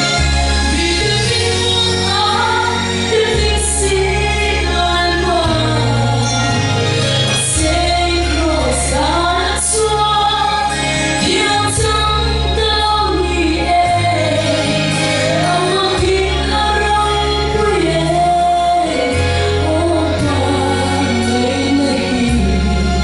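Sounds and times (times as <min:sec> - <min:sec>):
amplified instrumental backing: 0:00.0 - 0:23.0
woman singing into a microphone: 0:00.1 - 0:23.0.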